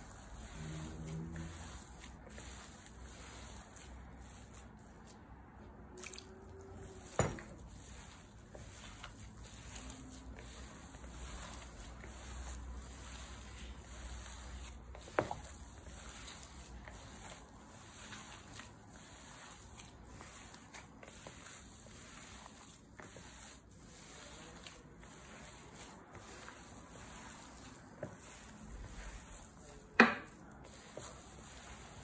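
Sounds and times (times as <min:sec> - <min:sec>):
dough squishing and rubbing: 0:00.0 - 0:32.0.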